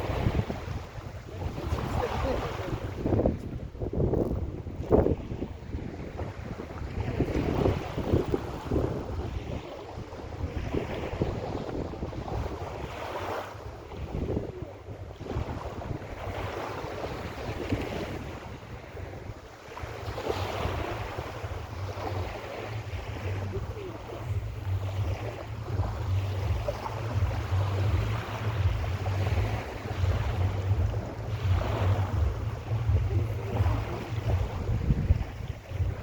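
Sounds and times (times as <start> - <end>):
sea waves washing onto beach: 0.0 - 36.0
wind buffeting microphone: 0.0 - 36.0.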